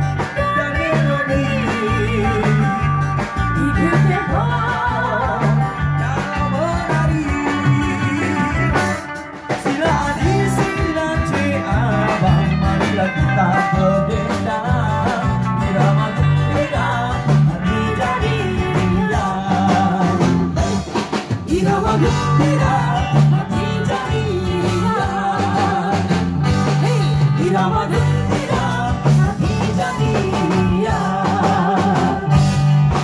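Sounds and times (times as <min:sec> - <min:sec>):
live band playing: 0:00.0 - 0:33.0
woman singing: 0:00.1 - 0:33.0.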